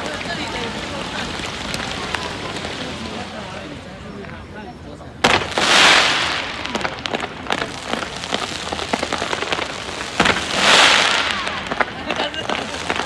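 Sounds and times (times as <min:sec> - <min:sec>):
crackling sparks rushing: 0:00.0 - 0:04.4, 0:05.2 - 0:13.0
firework bang: 0:00.0 - 0:04.5, 0:05.2 - 0:13.0
fireworks popping and crackling: 0:00.0 - 0:13.0.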